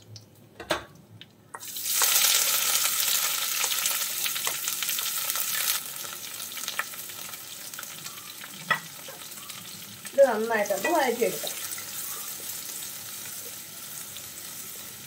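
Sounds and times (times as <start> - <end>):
onion sizzling in hot oil: 1.5 - 15.0.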